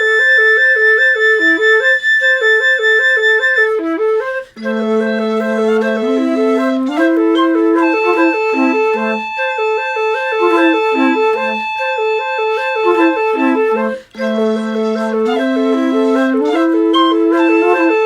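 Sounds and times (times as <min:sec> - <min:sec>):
flutes playing together: 0:00.0 - 0:18.0.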